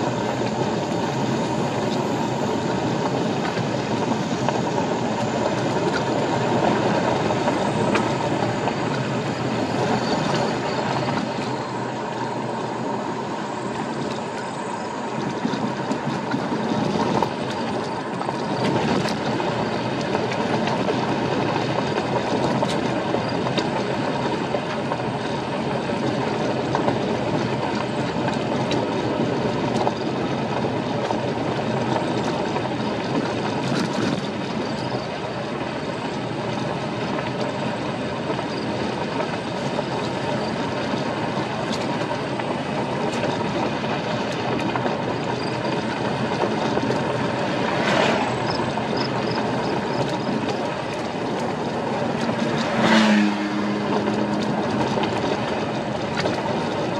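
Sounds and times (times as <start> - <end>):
tyres rolling on gravel road: 0.0 - 56.9.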